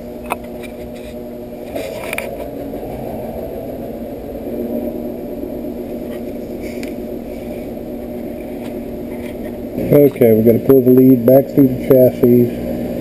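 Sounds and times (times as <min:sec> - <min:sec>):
low mechanical whirring hum: 0:00.0 - 0:13.0.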